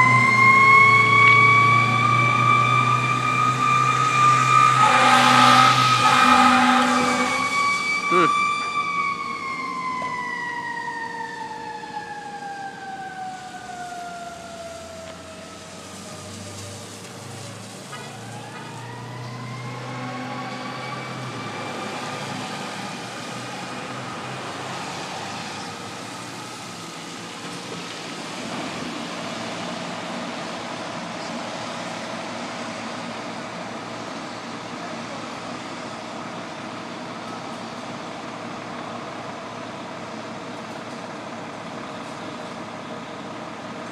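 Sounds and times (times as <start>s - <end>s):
fire engine motor running: 0.0s - 43.9s
fire truck siren wailing: 0.0s - 43.9s.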